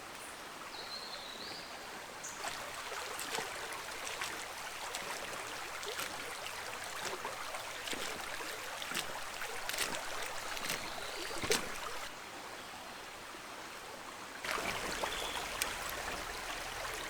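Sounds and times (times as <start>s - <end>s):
stream trickling: 0.5s - 17.0s.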